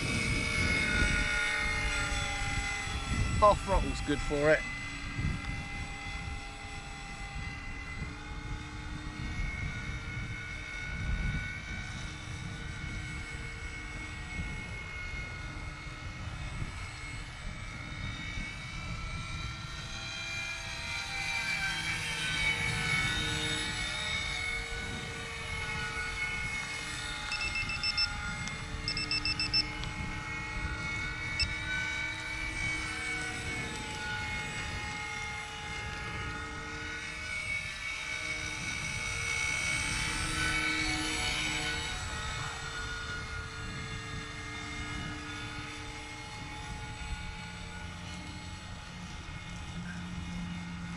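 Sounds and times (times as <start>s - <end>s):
model plane motor whine: 0.0s - 50.9s
wind rumble on microphone: 0.0s - 50.9s.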